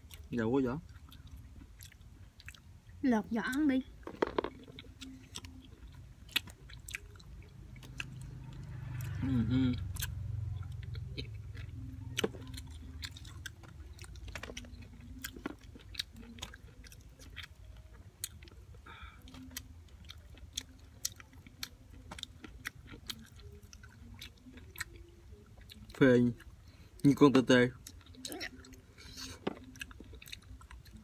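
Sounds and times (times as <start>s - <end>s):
person chewing fruit: 0.0s - 3.0s, 4.0s - 31.0s.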